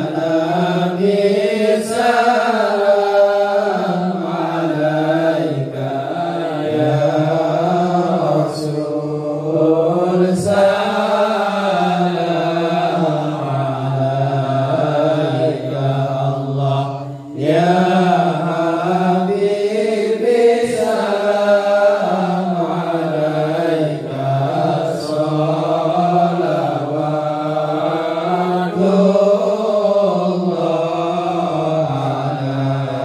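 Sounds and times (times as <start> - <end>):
men chanting in unison: 0.0 - 33.0.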